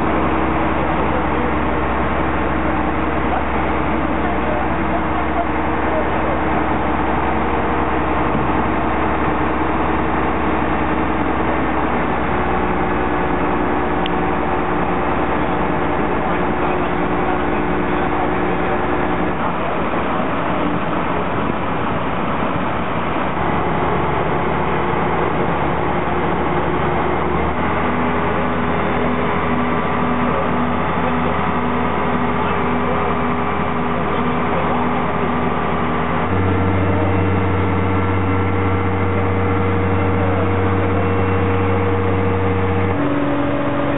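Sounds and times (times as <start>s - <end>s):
truck engines humming: 0.0s - 43.9s.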